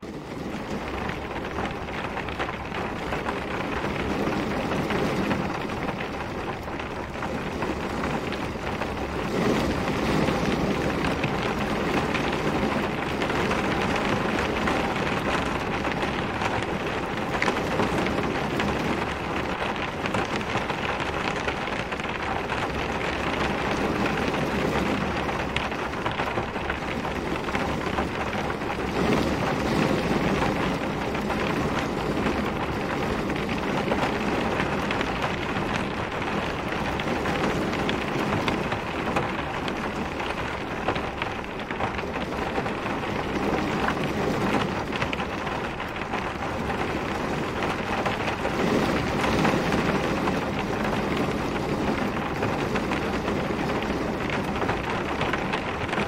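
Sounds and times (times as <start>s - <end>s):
rain falling on a car: 0.0s - 56.0s.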